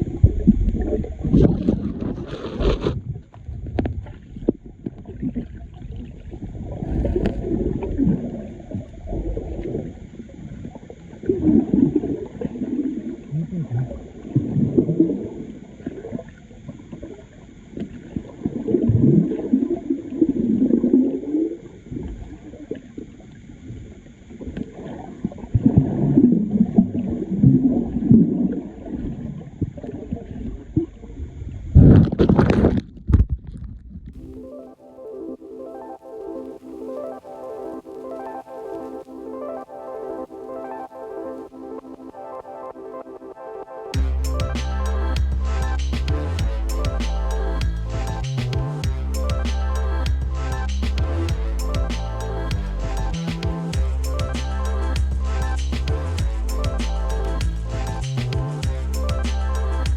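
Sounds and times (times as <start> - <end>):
muffled gurgling water: 0.0 - 59.9.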